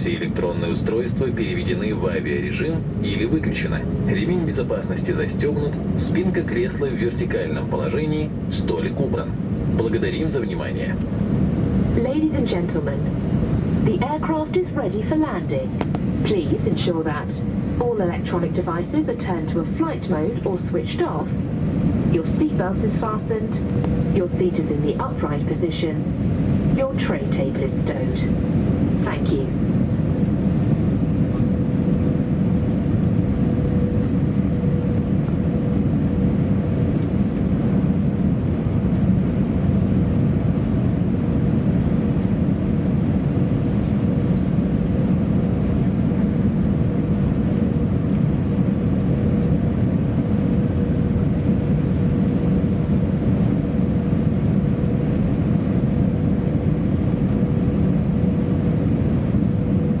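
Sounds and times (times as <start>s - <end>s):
airflow and engine rush: 0.0s - 60.0s
steady hum: 0.0s - 60.0s.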